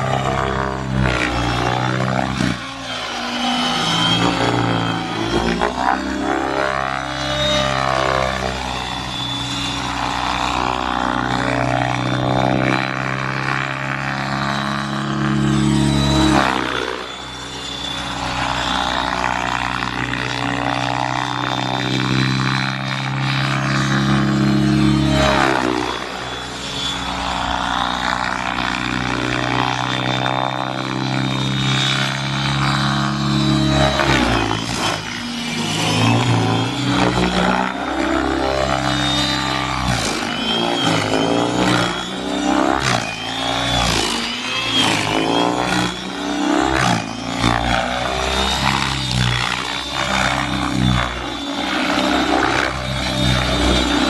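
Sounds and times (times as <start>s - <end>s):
rc helicopter rotor and motor whine: 0.0s - 54.0s.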